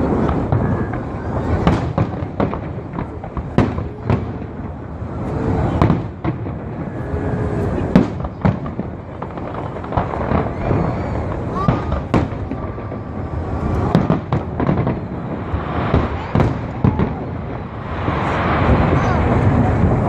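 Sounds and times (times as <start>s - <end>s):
firework whistles: 0.0s - 20.0s
fireworks bangs and cracks: 0.0s - 20.0s
rumble of distant explosions: 0.0s - 20.0s.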